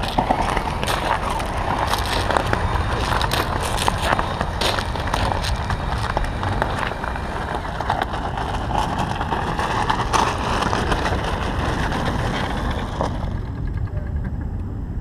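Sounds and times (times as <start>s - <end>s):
tyres crackling on gravel: 0.0s - 13.8s
low rumble: 0.0s - 15.0s
model truck motor whine: 0.0s - 15.0s.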